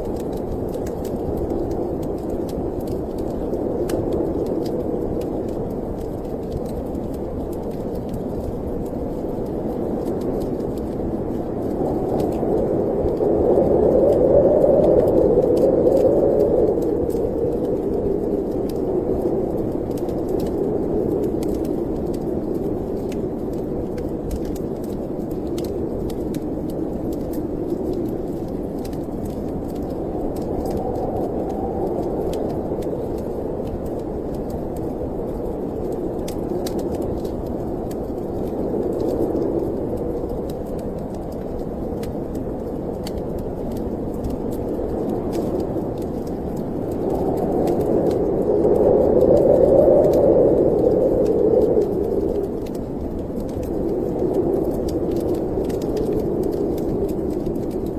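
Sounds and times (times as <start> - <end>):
storm wind gusting: 0.0 - 57.9
wood fire crackling: 0.0 - 57.9.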